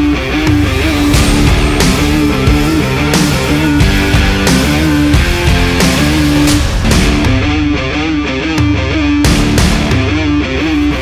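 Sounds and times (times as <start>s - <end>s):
guitar-led rock music: 0.0s - 11.0s.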